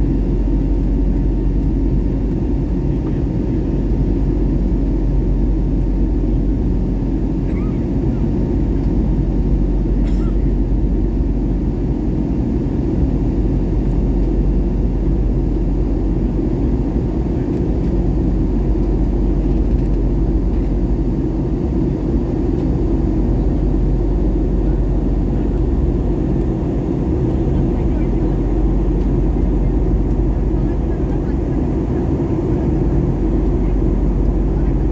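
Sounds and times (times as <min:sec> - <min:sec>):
aircraft cabin engine roar: 0:00.0 - 0:34.9.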